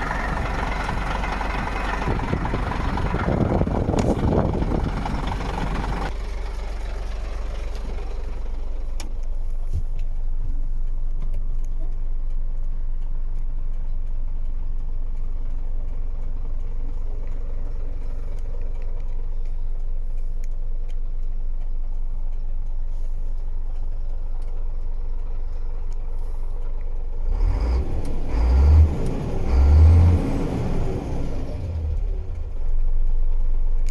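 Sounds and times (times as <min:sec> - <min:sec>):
diesel truck engine idling and revving: 0:00.0 - 0:33.9.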